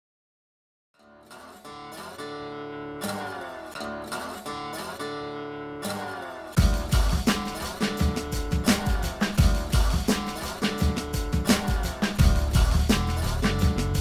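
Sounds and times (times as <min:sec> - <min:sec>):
strummed acoustic guitar chords: 0:01.0 - 0:14.0.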